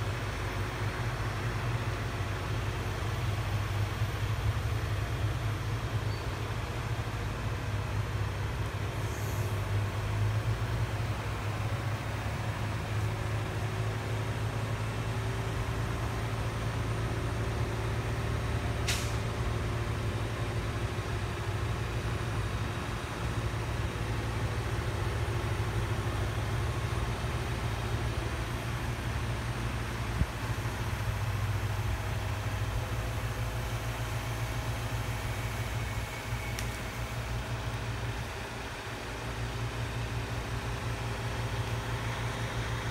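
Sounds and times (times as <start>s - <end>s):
vehicle engine droning: 0.0s - 42.9s.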